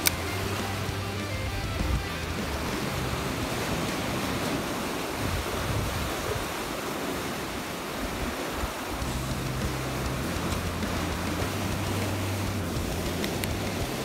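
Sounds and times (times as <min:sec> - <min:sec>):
sea waves: 0:00.0 - 0:14.0
wind buffeting microphone: 0:00.0 - 0:14.0.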